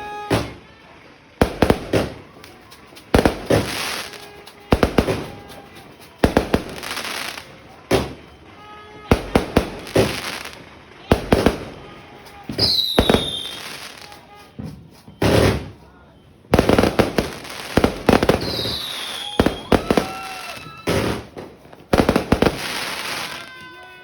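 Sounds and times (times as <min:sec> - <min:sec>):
fireworks bangs with crackle: 0:00.0 - 0:24.0
falling firework whistles: 0:01.4 - 0:08.4, 0:09.1 - 0:15.9, 0:16.5 - 0:23.9.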